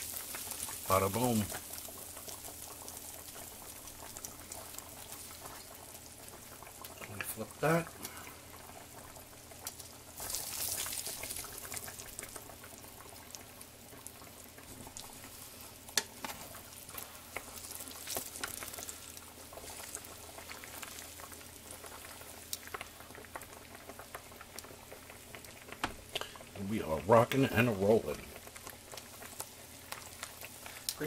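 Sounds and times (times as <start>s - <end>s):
cutlet sizzling in oil: 0.0s - 31.0s.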